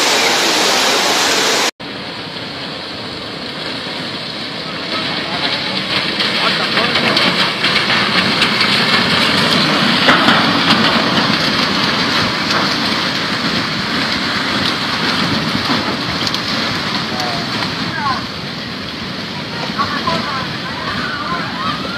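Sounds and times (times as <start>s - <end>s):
debris flow rumbling rush: 0.0s - 21.9s.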